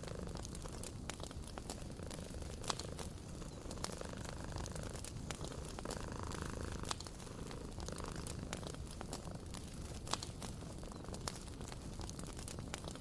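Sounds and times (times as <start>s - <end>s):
cat purring: 0.0s - 13.0s
wood fire crackling: 0.0s - 13.0s.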